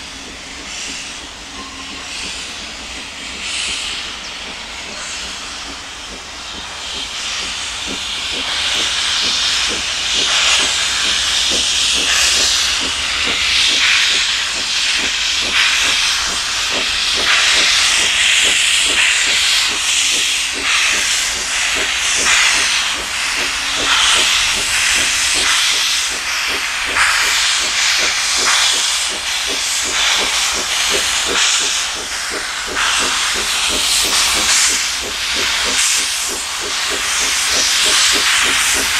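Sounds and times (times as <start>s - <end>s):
steam hiss: 0.0s - 38.9s
steam locomotive exhaust chuffs: 0.0s - 38.9s.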